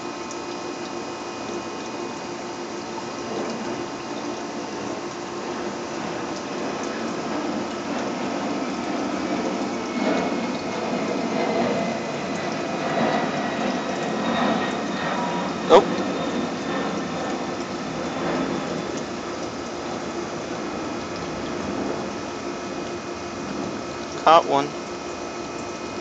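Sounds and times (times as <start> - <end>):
aquarium filter pump hum: 0.0 - 26.0
water trickling and churning: 0.0 - 26.0.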